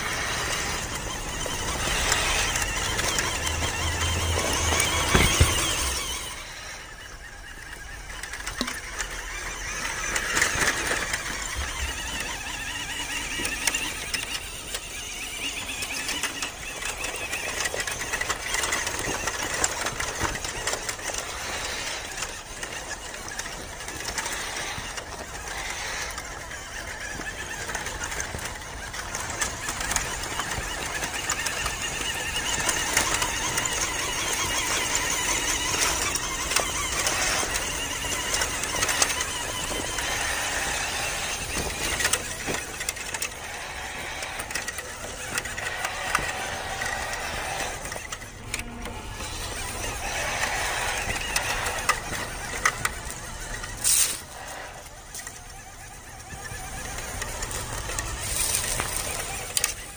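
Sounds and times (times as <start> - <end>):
small electric motor whining: 0.0 - 59.9
tyres crunching on gravel: 0.0 - 59.9.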